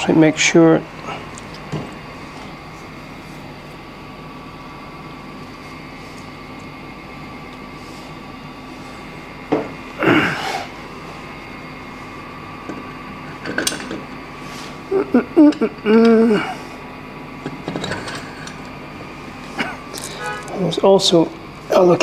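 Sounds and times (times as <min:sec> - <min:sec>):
room hum: 0:00.0 - 0:22.0.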